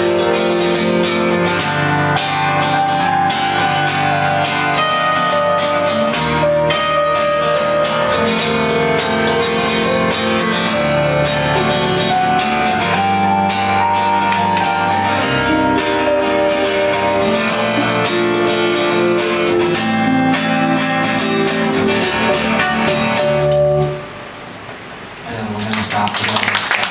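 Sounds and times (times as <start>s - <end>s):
keyboard playing chords and melody: 0.0s - 25.0s
acoustic guitar strumming: 0.0s - 25.2s.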